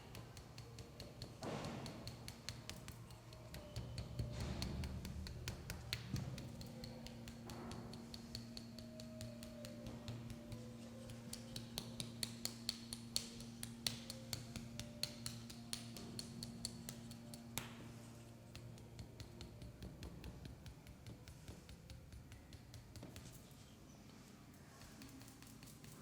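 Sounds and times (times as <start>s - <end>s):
rapid light clicks and taps: 0.0s - 26.0s.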